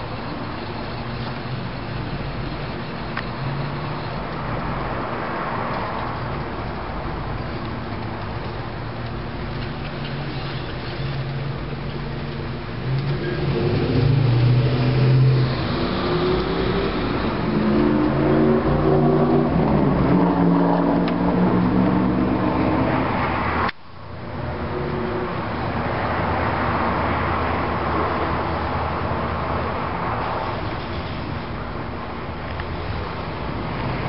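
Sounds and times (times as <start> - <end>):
road noise: 0.0 - 34.0
vehicle engines running: 0.0 - 34.0.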